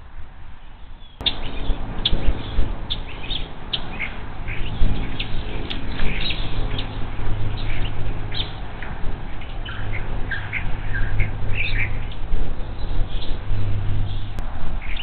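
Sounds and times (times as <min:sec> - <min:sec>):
birds chirping: 0:00.6 - 0:15.0
steady low hum: 0:01.2 - 0:15.0.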